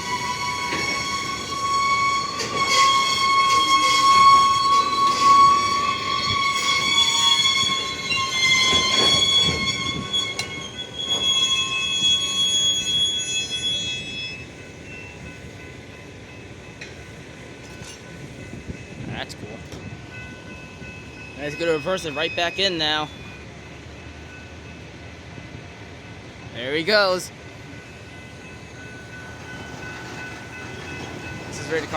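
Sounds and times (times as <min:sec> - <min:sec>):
train wheels squealing on rails: 0:00.0 - 0:24.9, 0:26.6 - 0:31.9
freight train rumble: 0:00.0 - 0:31.9
train clanks: 0:00.0 - 0:31.9.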